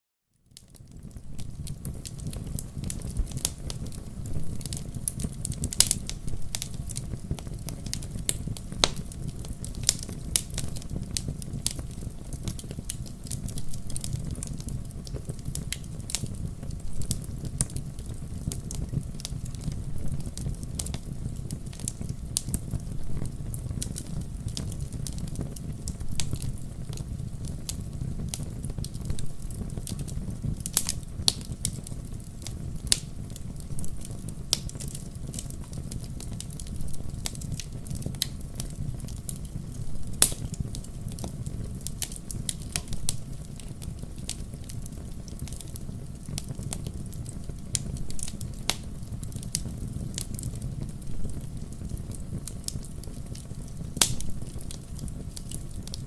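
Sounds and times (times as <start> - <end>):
campfire crackling: 0.5 - 56.0.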